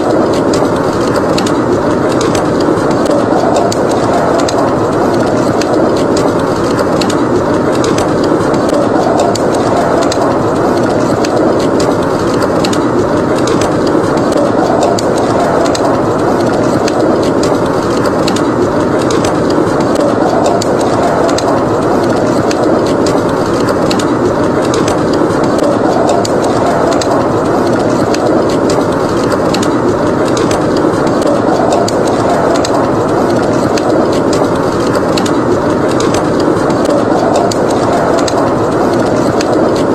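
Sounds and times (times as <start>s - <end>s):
howling wind: 0.0s - 39.9s
wood fire crackling: 0.0s - 39.9s.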